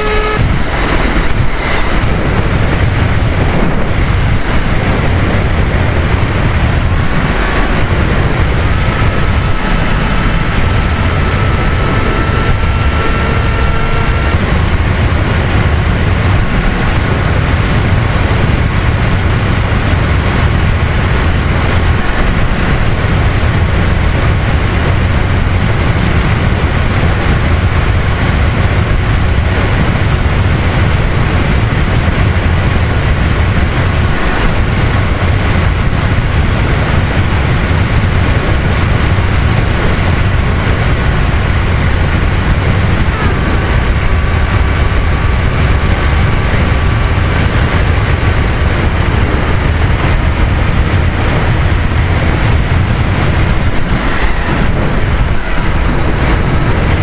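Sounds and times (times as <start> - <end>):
electric motor whine: 0.0 - 57.0
wind rushing over microphone: 0.0 - 57.0.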